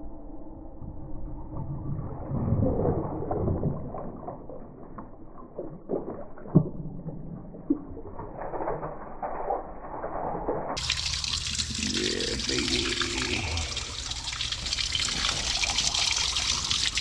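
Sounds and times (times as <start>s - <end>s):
water gushing from drain: 2.0s - 17.0s.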